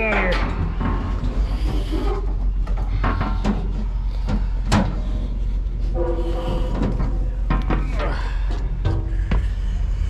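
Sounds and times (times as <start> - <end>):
metal knocks and clanks: 0.0 - 9.8
low rumble: 0.0 - 10.0.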